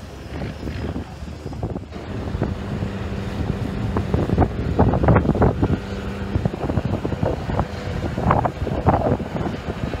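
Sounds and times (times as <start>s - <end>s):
boat engine humming: 0.0s - 10.0s
water churning around hull: 0.0s - 10.0s
wind buffeting microphone: 0.0s - 10.0s.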